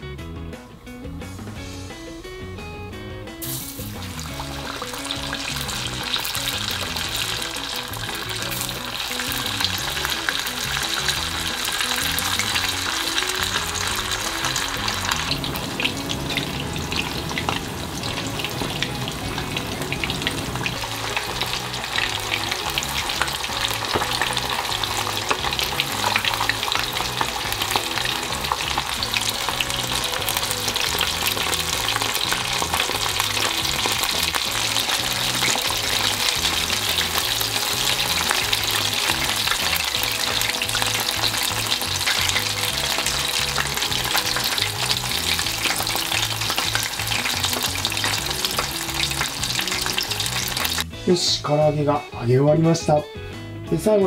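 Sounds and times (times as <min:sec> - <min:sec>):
oil crackling and sizzling: 0:03.3 - 0:50.9.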